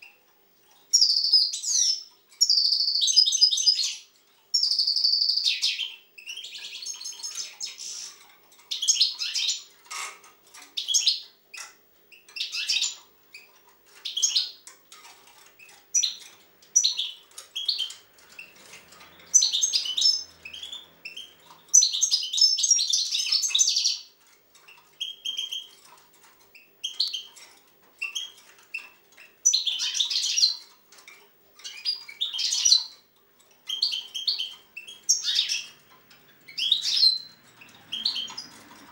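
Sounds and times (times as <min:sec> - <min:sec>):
goldfinch singing: 0:00.9 - 0:09.7, 0:10.8 - 0:14.7, 0:15.6 - 0:25.9, 0:26.6 - 0:27.4, 0:28.0 - 0:31.0, 0:31.6 - 0:38.9.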